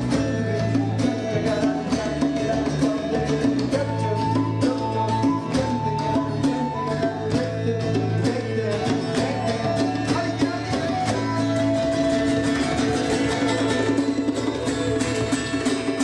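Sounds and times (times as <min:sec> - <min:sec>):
band music with guitar and drums: 0:00.0 - 0:16.0.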